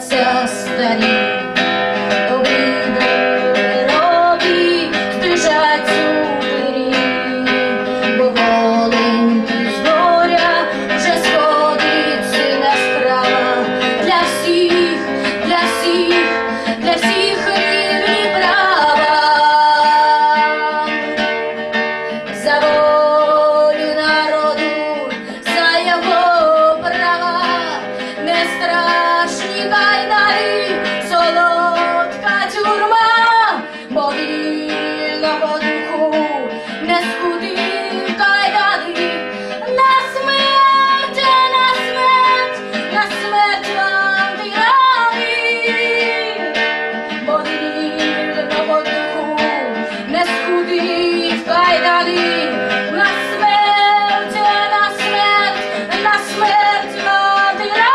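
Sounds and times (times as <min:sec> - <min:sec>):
acoustic guitar strumming: 0:00.0 - 0:57.9
woman singing: 0:00.0 - 0:57.9.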